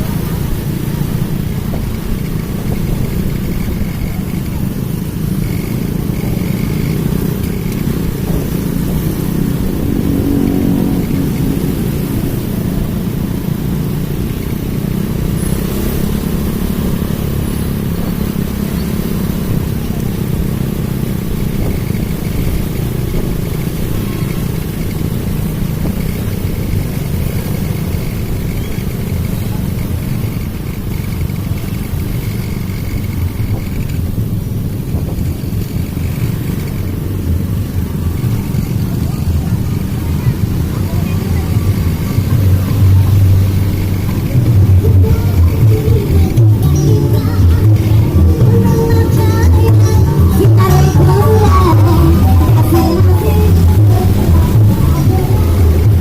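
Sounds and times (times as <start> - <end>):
motorcycles passing: 0.0 - 56.0
street traffic rumble: 0.0 - 56.0.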